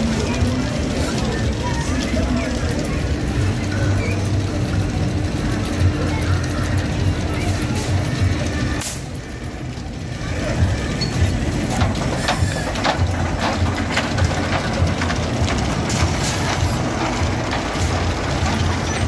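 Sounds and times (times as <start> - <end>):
ride cars rumbling on steel track: 0.0 - 19.0.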